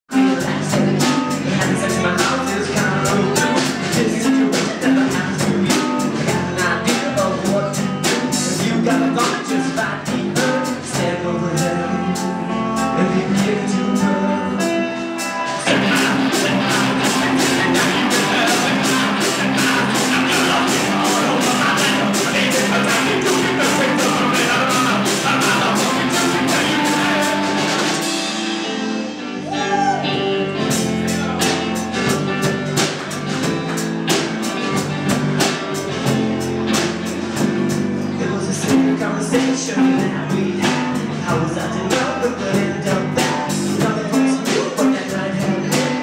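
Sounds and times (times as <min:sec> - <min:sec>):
bass guitar: 0:00.0 - 0:46.0
lead vocal singing: 0:00.1 - 0:32.4, 0:38.0 - 0:46.0
drum kit: 0:00.1 - 0:46.0
electric guitar: 0:00.1 - 0:46.0.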